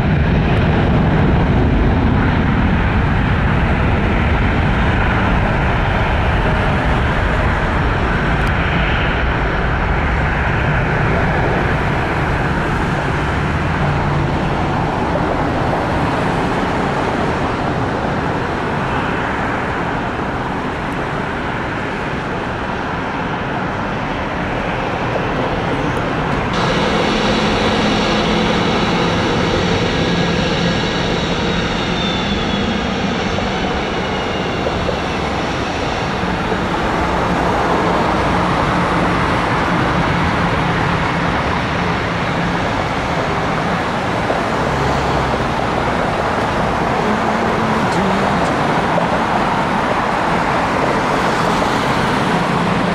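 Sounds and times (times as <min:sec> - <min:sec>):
jet engines at taxi power: 0:00.0 - 0:52.9
jet plane climbing: 0:00.0 - 0:52.9.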